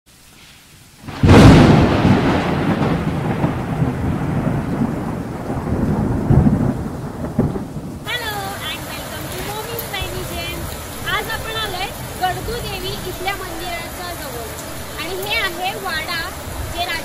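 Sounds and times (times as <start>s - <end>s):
rain hissing: 0.1s - 17.0s
thunderclap and rolling thunder: 1.0s - 17.0s.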